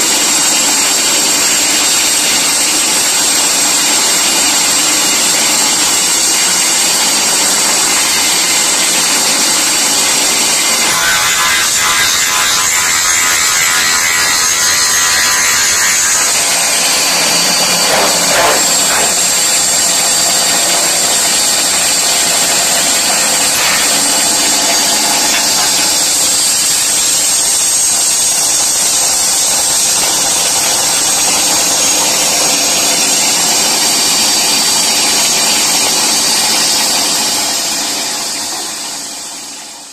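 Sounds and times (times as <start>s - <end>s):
woodworking machine whine: 0.0s - 39.9s.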